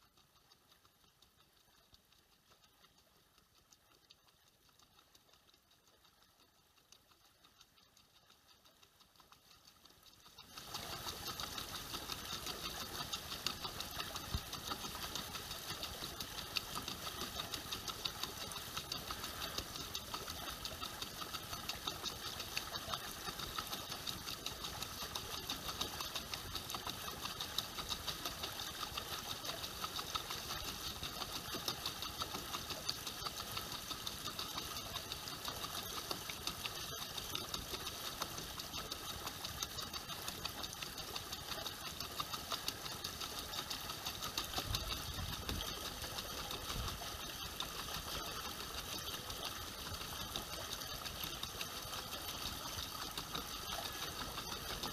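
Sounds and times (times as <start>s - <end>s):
small motor whirring: 9.5s - 54.9s.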